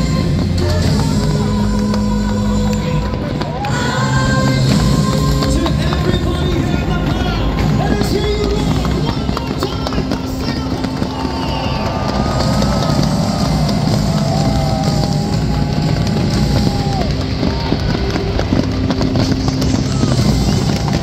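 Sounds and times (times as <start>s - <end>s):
fireworks banging and crackling: 0.0s - 21.0s
music playing: 0.0s - 21.0s.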